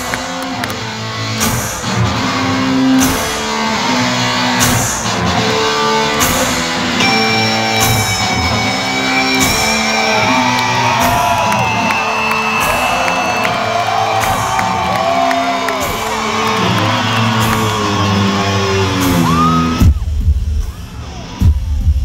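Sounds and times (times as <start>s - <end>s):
live rock music: 0.0s - 22.0s.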